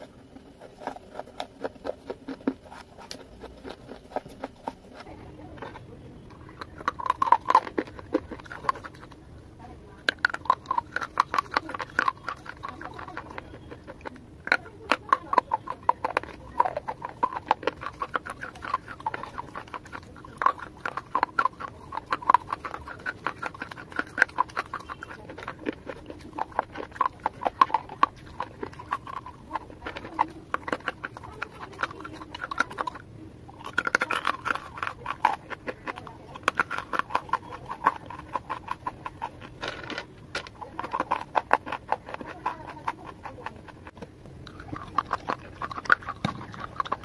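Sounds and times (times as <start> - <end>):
crunching hard clay pieces: 0.0 - 47.0.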